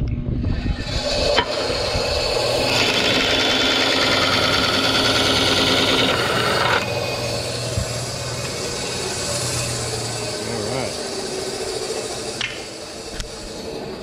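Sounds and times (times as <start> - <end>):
saw motor humming: 0.5 - 14.0
bandsaw cutting plastic pipe: 0.7 - 14.0.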